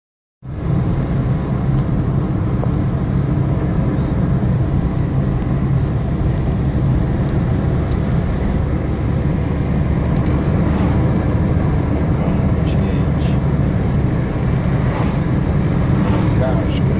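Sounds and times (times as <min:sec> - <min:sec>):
car engine and tyre noise: 0:00.4 - 0:16.9.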